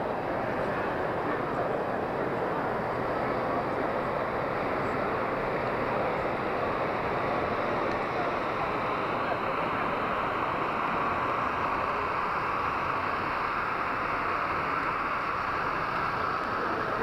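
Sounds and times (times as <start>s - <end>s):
busy exhibition hall background noise: 0.0s - 17.0s.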